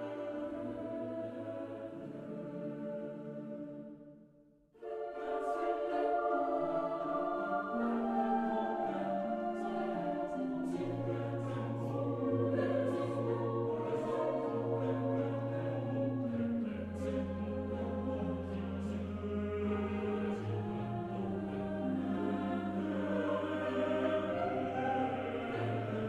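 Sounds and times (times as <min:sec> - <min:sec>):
choir singing sustained chords: 0:00.0 - 0:26.0.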